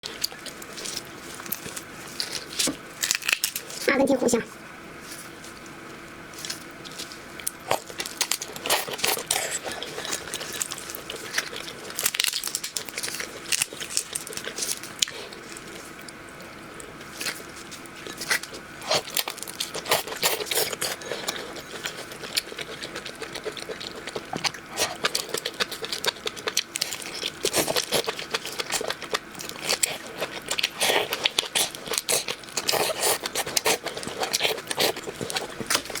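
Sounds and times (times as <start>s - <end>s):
crunching and chewing shrimp: 0.0s - 3.9s, 5.0s - 36.0s
faint steady hum: 0.0s - 36.0s.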